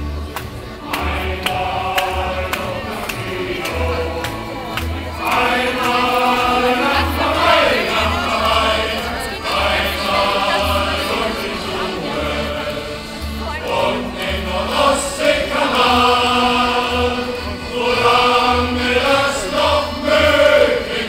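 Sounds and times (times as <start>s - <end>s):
male choir singing: 0.8s - 21.0s.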